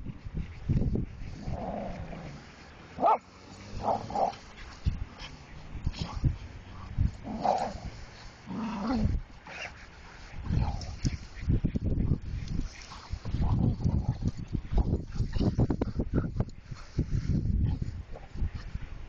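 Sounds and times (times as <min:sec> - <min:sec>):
dogs play-fighting: 0:01.2 - 0:18.8.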